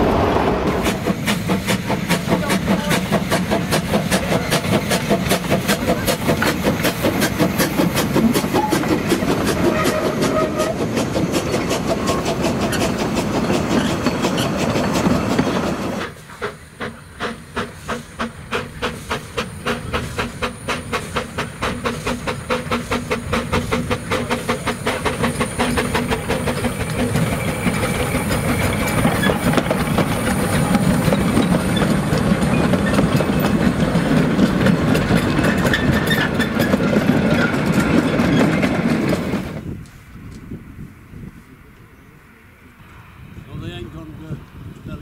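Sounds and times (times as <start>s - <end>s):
steam locomotive exhaust beats: 0.0s - 41.9s
rush of exhaust and steam: 0.0s - 45.0s
wheels on rail: 0.0s - 45.0s.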